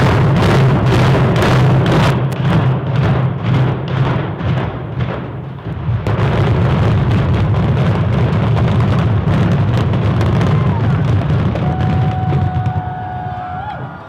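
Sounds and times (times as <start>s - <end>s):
demolition rumble with crackling: 0.0s - 14.0s.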